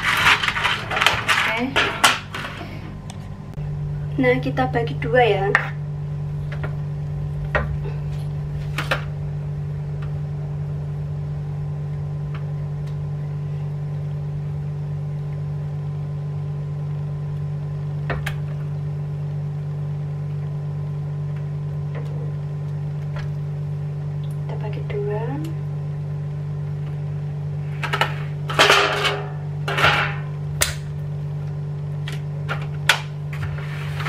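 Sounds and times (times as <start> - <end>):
kitchen appliance humming: 0.0 - 34.0.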